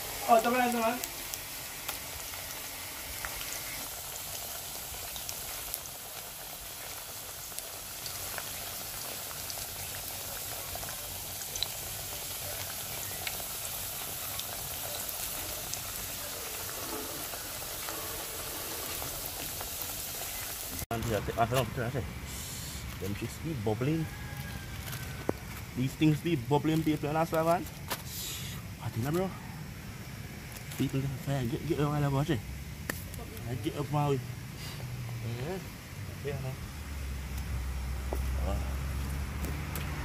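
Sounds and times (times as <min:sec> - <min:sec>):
plantain frying in hot oil: 0:00.0 - 0:40.0.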